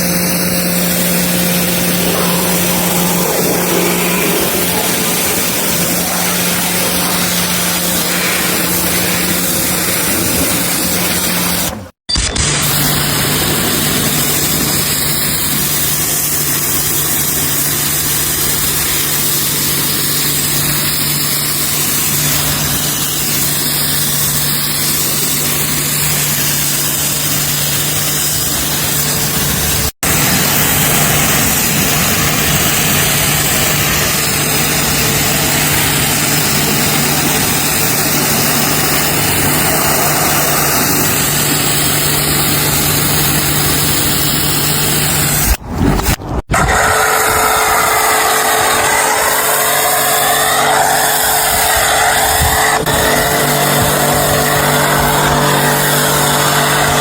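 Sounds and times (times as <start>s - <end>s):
pressure washer motor hum: 0.0s - 57.0s
water spray hiss: 0.0s - 57.0s.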